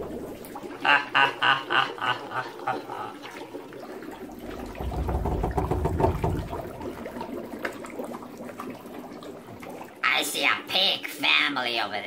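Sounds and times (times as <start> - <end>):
water sloshing in bathtub: 0.0 - 11.4.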